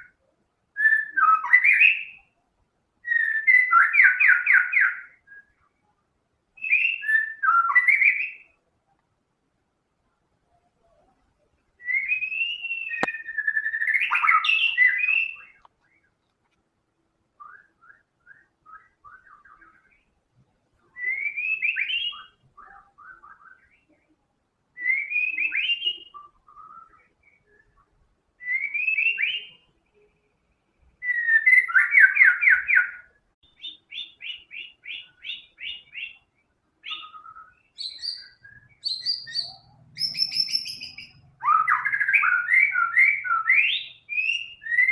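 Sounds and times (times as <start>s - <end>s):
songbird singing whistled phrases: 0.0s - 2.4s, 3.0s - 5.8s, 6.6s - 8.6s, 11.8s - 16.1s, 17.4s - 20.1s, 20.8s - 24.0s, 24.8s - 30.2s, 31.0s - 44.9s.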